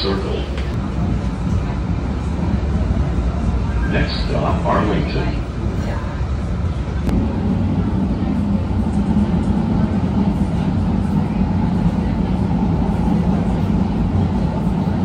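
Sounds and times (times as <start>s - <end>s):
tram hum and track rumble: 0.0s - 15.0s.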